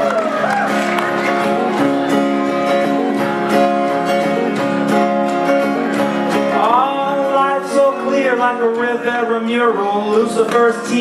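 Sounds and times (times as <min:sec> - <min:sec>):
strummed guitar: 0:00.0 - 0:11.0
banjo: 0:00.5 - 0:11.0.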